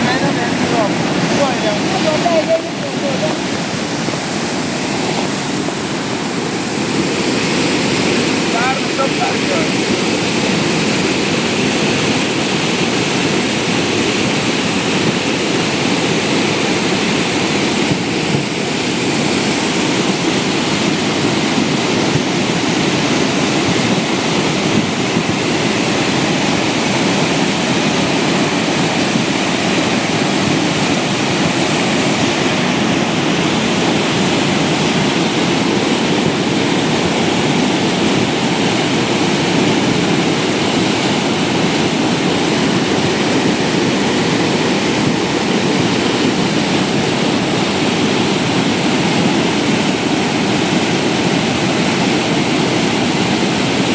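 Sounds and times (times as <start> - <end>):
floodwater rushing down stream: 0.0 - 53.9.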